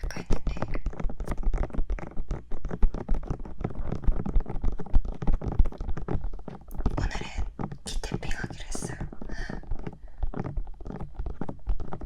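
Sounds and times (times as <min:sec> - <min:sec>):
fingertips tapping on microphone: 0:00.0 - 0:12.0.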